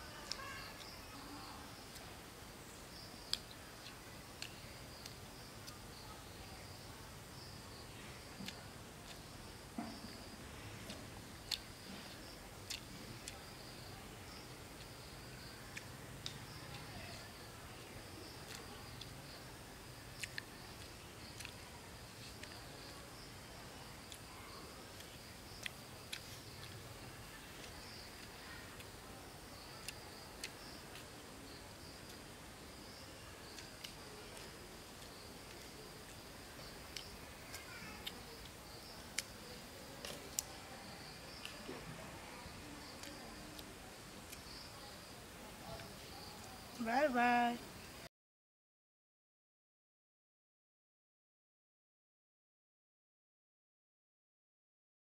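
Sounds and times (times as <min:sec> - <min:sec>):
faint insects chirring: 0:00.0 - 0:48.1.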